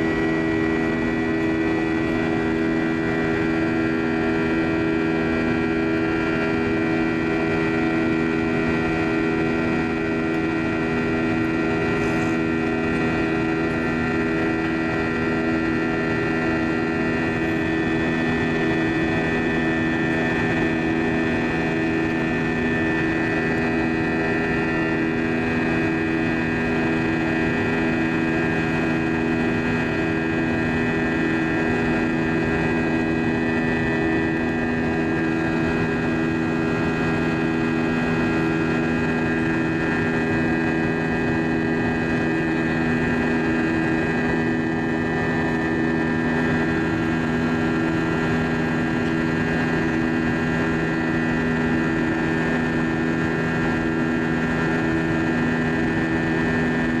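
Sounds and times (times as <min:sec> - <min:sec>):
jet engine drone in cabin: 0:00.0 - 0:57.0
steady humming tones: 0:00.0 - 0:57.0.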